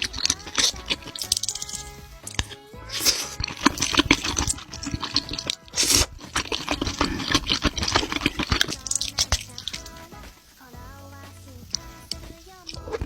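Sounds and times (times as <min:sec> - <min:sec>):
noisy slurp: 0:00.0 - 0:10.6.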